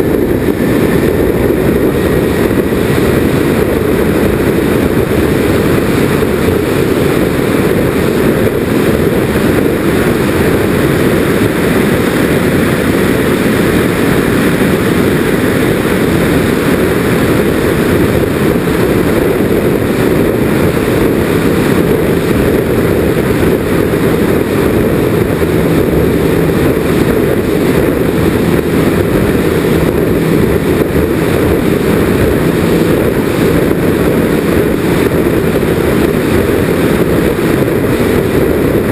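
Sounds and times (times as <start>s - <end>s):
air rushing over microphone: 0.0s - 38.9s
low steady hum: 0.0s - 38.9s.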